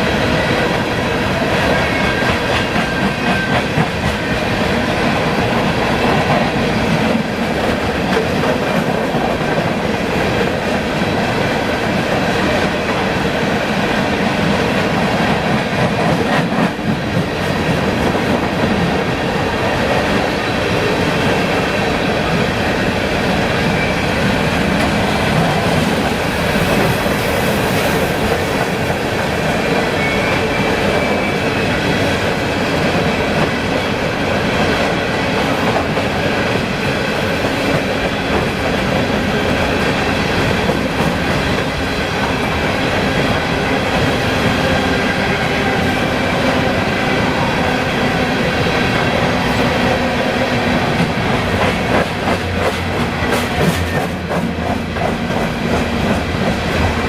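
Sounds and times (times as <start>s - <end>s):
train wheels clattering over rails: 0.0s - 57.0s.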